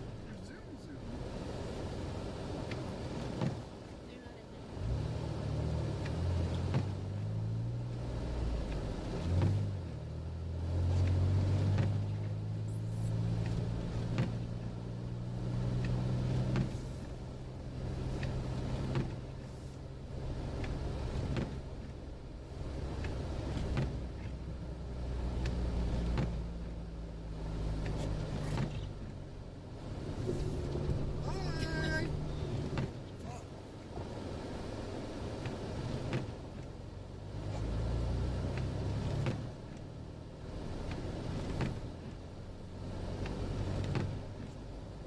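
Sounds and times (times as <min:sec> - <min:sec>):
car engine running while driving: 0:00.0 - 0:45.0.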